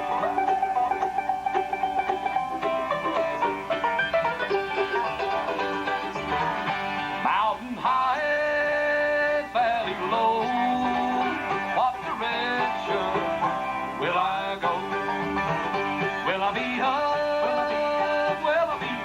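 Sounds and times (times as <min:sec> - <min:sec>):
bluegrass band playing: 0:00.0 - 0:19.0.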